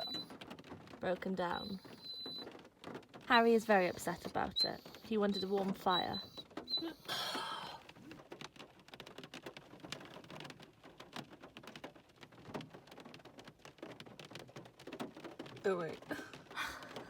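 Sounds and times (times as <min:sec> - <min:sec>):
rain patter: 0:00.0 - 0:17.0.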